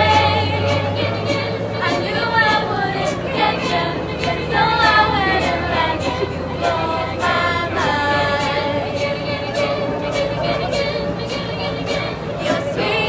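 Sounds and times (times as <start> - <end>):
choir singing a cappella: 0.0 - 13.0
crisp ticking beat: 0.0 - 13.0.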